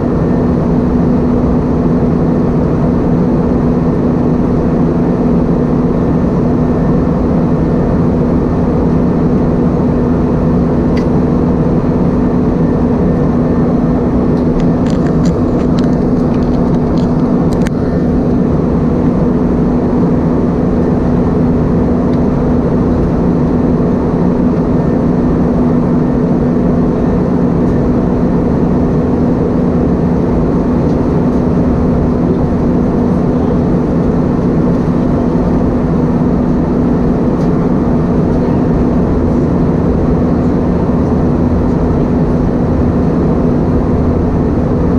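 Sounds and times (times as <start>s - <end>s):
aircraft cabin engine drone: 0.0s - 44.9s.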